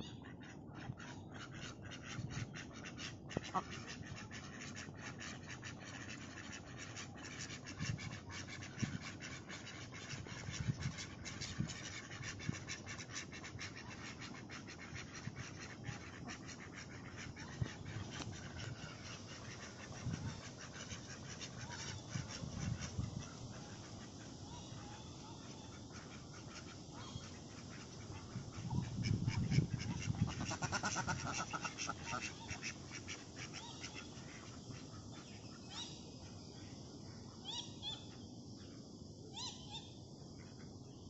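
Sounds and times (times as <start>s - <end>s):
ducks quacking softly: 0.0s - 36.5s.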